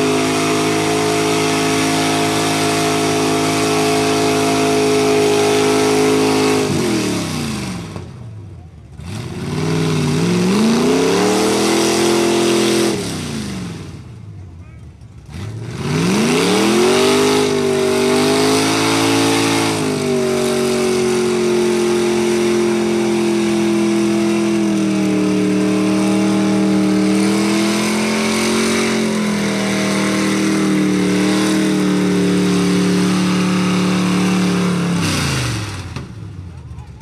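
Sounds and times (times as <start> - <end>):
tires churning through mud: 0.0 - 37.0
truck engine revving: 0.0 - 37.0.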